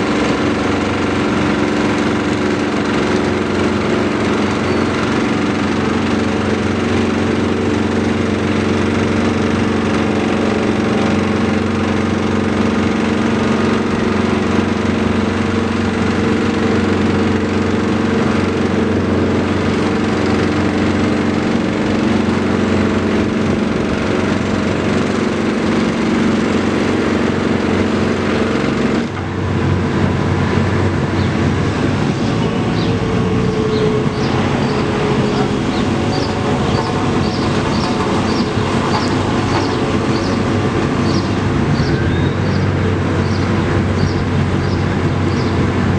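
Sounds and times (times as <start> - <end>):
diesel engine running steadily: 0.0 - 45.9
rough mechanical noise: 0.0 - 45.9.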